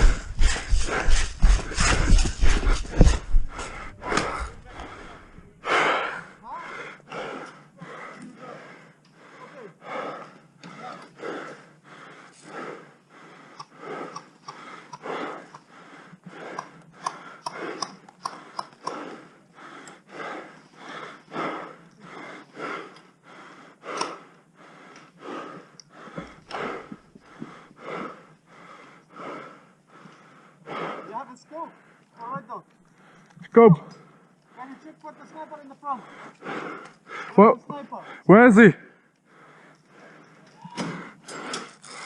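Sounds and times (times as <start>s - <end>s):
rapid heavy breathing: 0.0s - 42.0s.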